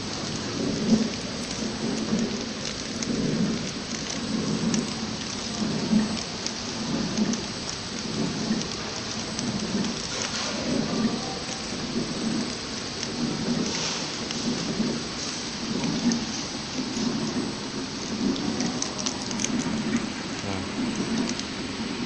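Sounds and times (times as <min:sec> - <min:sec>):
packing machine whirring and hissing: 0:00.0 - 0:22.0.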